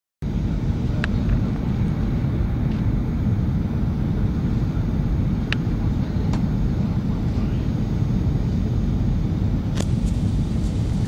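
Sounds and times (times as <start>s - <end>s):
jet engines rumbling: 0.2s - 11.0s
rushing air: 0.2s - 11.0s.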